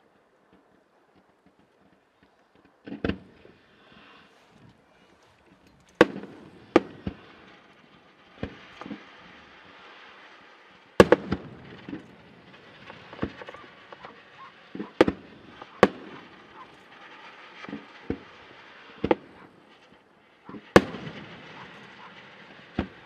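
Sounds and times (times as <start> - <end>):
steady hiss: 0.0 - 23.0
soft firework pops: 0.5 - 9.8, 11.0 - 23.0
firework shells bursting: 1.1 - 23.0.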